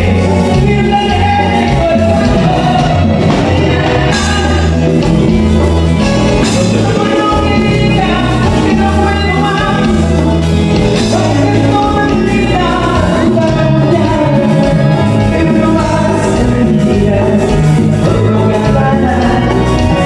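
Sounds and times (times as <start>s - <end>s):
lead singer singing: 0.0s - 20.0s
live latin band playing: 0.0s - 20.0s.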